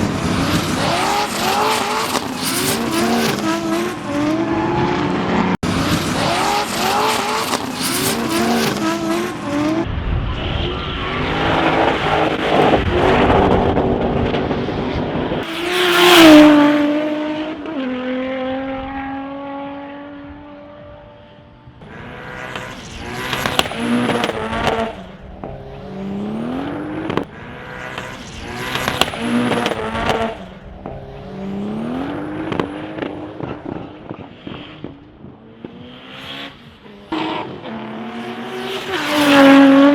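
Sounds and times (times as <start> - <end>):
race car engines revving: 0.0 - 39.9
race car passing: 0.0 - 39.9.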